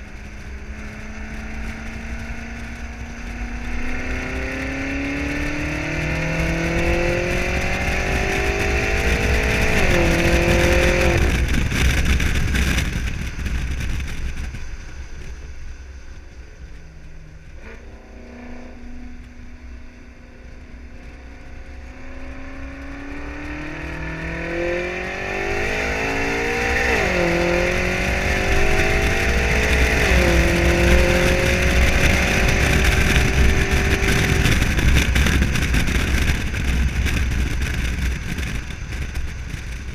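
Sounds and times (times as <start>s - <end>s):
car engine accelerating hard: 0.0s - 15.6s, 16.8s - 39.9s.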